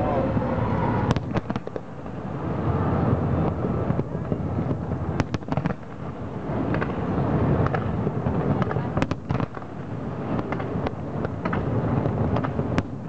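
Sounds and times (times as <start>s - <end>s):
distant fireworks rumble: 0.0s - 13.0s
sharp firework cracks: 1.0s - 13.0s.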